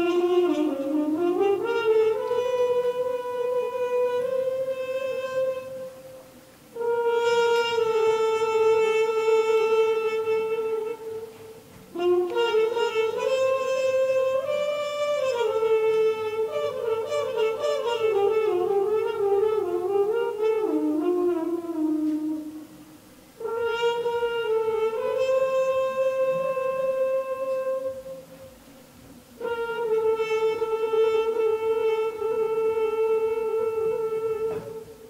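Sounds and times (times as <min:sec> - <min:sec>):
muted trumpet playing: 0:00.0 - 0:28.6, 0:29.3 - 0:35.0.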